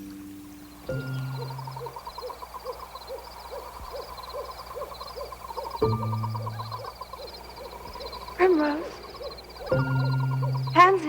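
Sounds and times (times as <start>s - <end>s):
owl hooting: 0.0s - 11.0s
rhythmic chirping: 0.0s - 11.0s.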